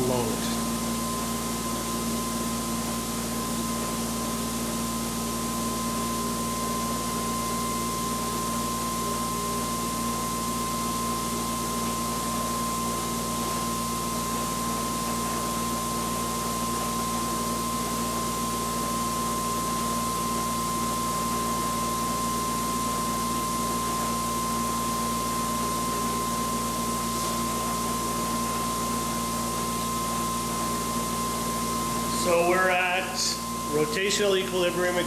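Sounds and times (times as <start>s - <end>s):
generator rig whirring with whine: 0.0s - 35.0s.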